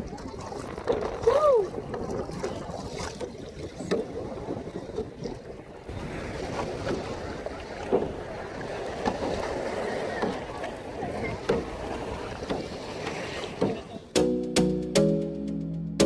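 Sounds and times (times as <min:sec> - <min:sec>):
wind buffeting microphone: 0:00.0 - 0:14.0
water sloshing around kayak: 0:00.0 - 0:14.2.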